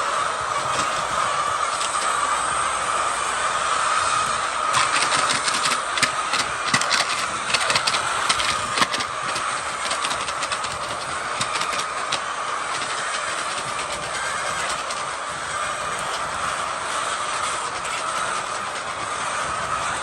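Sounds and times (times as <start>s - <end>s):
machinery clattering: 3.8s - 20.0s.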